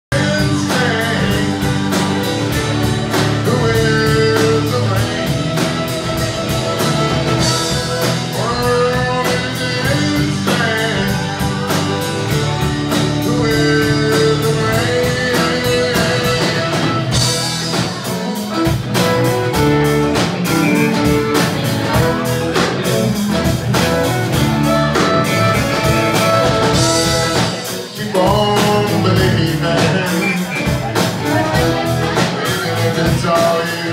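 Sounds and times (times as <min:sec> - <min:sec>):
drum kit beat: 0:00.1 - 0:33.9.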